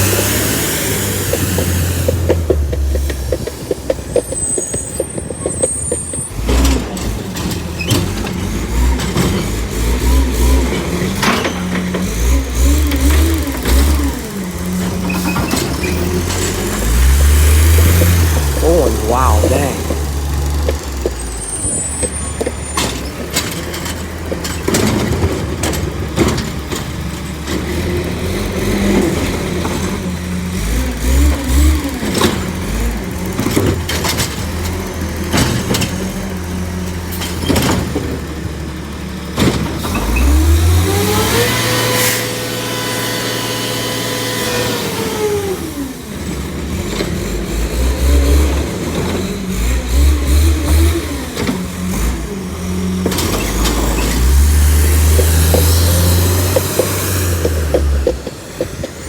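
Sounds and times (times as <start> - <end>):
garbage truck engine idling and revving: 0.0 - 59.0.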